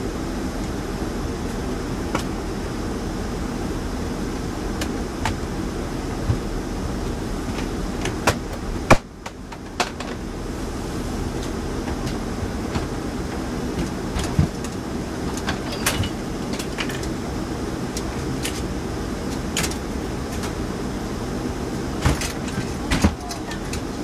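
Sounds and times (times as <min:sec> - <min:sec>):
low mechanical rumble: 0:00.0 - 0:24.0.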